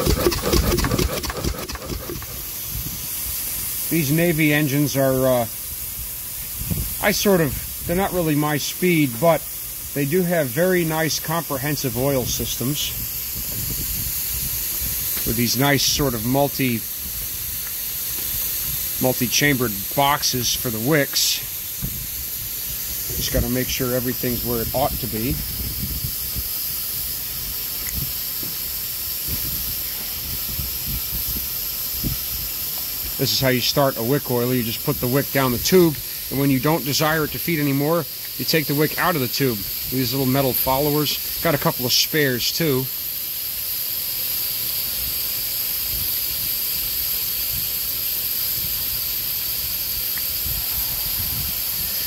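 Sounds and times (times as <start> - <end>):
steam hissing: 0.0 - 52.0.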